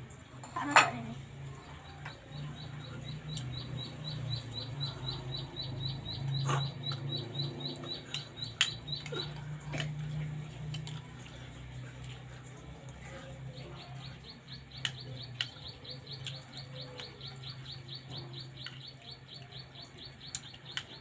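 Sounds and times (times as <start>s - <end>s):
small bird chirping: 1.6s - 10.9s, 13.0s - 21.0s.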